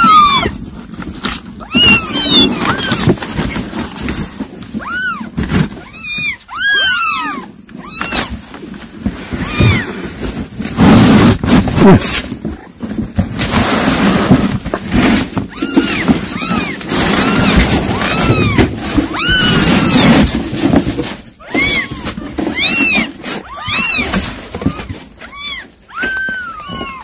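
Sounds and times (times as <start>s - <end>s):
kittens mewing: 0.0s - 0.7s, 1.5s - 10.4s, 11.6s - 12.8s, 15.4s - 27.0s
cardboard boxes rustling: 0.0s - 27.0s.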